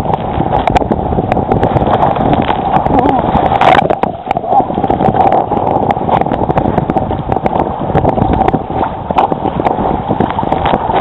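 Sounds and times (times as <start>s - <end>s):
water rushing along hull: 0.0s - 11.0s
waves slapping boat: 0.0s - 11.0s
wind buffeting microphone: 0.0s - 11.0s.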